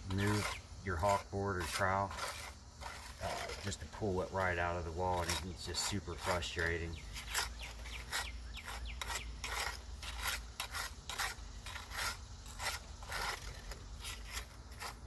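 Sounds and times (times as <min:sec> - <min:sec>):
trowel scraping mortar: 0:00.0 - 0:15.0.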